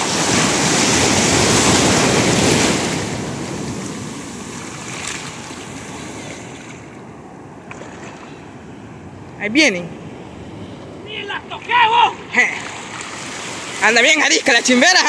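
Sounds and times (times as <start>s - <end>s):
ocean wave breaking: 0.0s - 15.0s.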